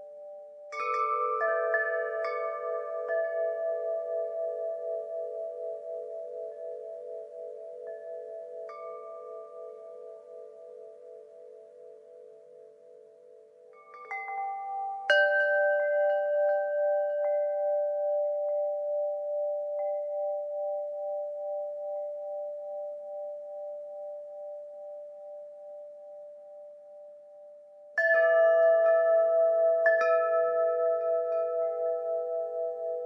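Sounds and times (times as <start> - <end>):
wind chimes ringing: 0.0 - 12.5, 13.7 - 25.7, 28.0 - 33.0.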